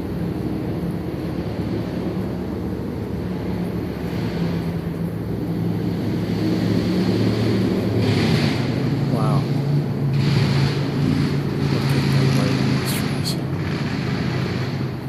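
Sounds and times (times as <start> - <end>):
engine drone: 0.0 - 15.0
road traffic rumble: 0.0 - 15.0.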